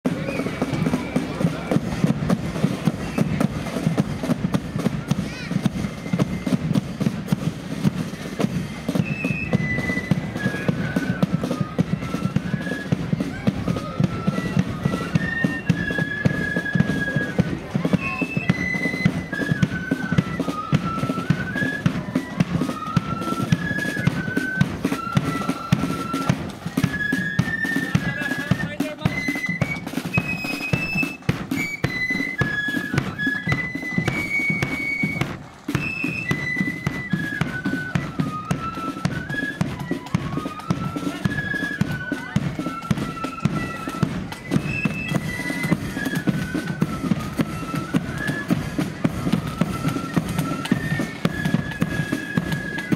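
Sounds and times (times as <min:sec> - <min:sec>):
flutes playing a melody: 0:00.0 - 0:52.9
snare drumming: 0:00.0 - 0:52.9.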